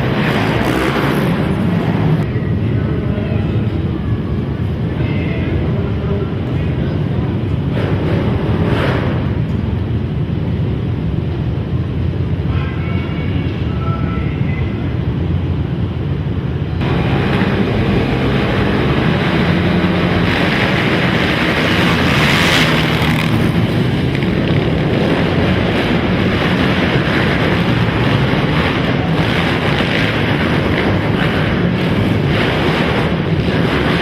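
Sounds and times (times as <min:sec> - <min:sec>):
racing quad engines running hard: 0:00.0 - 0:12.5, 0:15.2 - 0:34.0.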